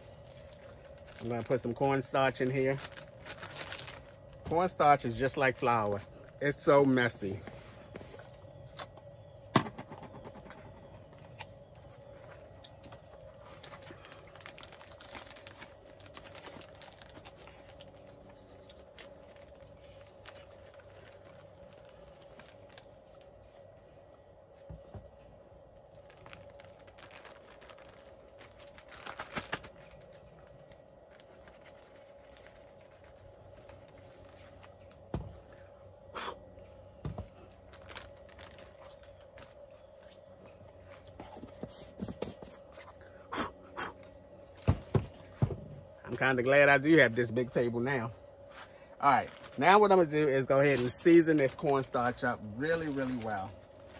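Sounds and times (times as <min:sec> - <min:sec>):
plastic bag crinkling: 0:00.0 - 0:23.8, 0:25.6 - 0:35.8, 0:37.2 - 0:43.1, 0:44.0 - 0:53.9
faint steady hum: 0:00.0 - 0:53.9.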